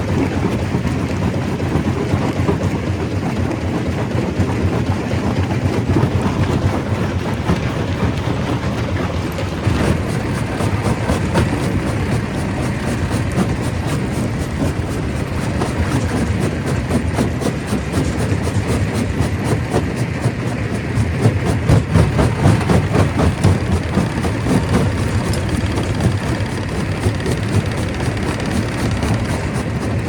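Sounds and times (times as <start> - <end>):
stone crusher rumbling: 4.5 - 30.0.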